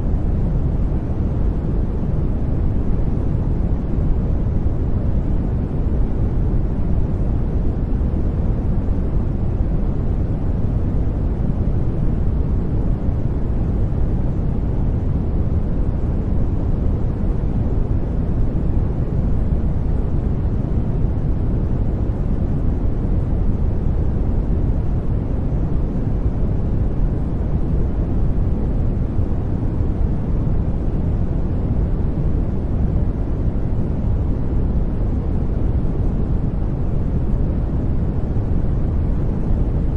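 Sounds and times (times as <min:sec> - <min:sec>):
deep white noise rush: 0:00.0 - 0:39.9.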